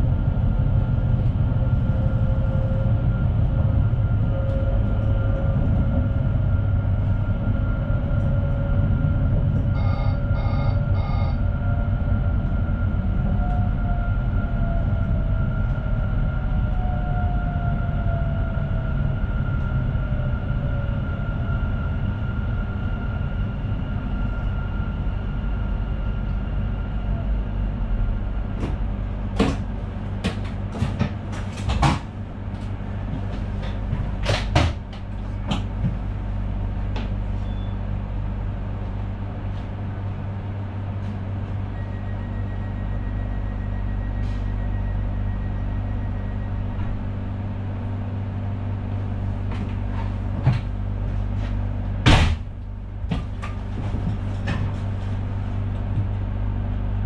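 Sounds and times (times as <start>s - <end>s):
train cab low hum: 0.0s - 57.0s.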